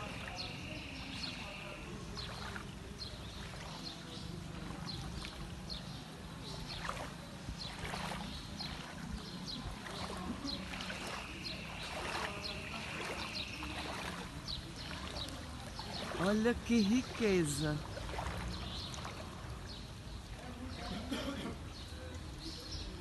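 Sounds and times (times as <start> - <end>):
water flowing: 0.0 - 23.0.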